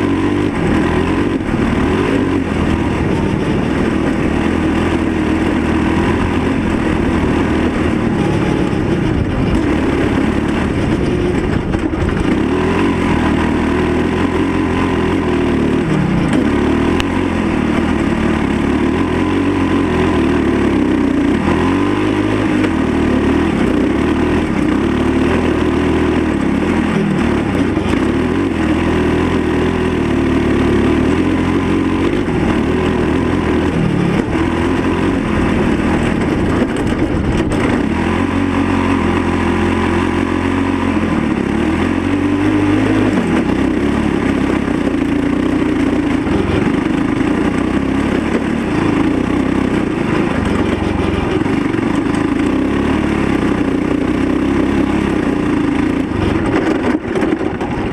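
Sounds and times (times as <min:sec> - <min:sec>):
buggy engine revving: 0:00.0 - 0:57.9.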